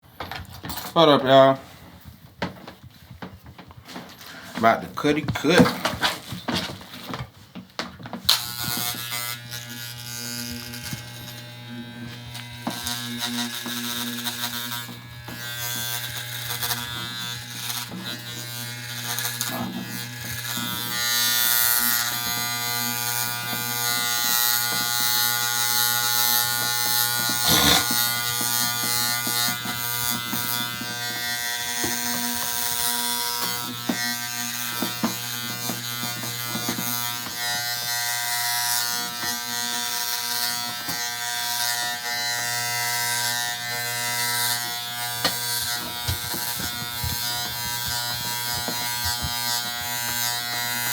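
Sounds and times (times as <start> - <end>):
electric hair clippers buzzing: 8.2 - 50.9.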